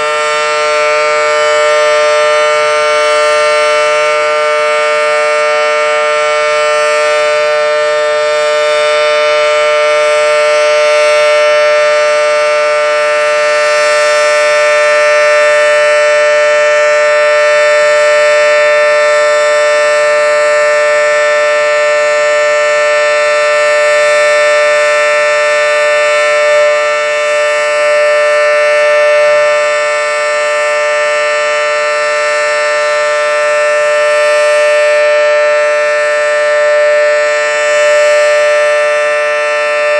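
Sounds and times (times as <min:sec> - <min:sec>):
warning siren two-note chord: 0:00.0 - 0:39.9.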